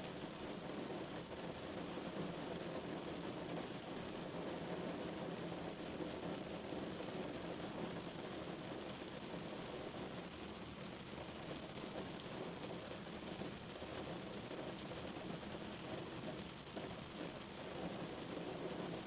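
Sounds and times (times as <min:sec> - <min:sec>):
rain falling on a car: 0:00.0 - 0:19.0.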